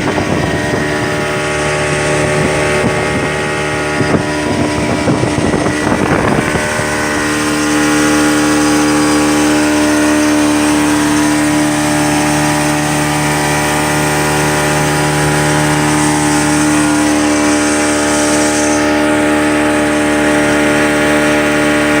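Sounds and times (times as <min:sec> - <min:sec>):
outboard motor running: 0:00.0 - 0:22.0
rush of wind or spray: 0:00.0 - 0:22.0.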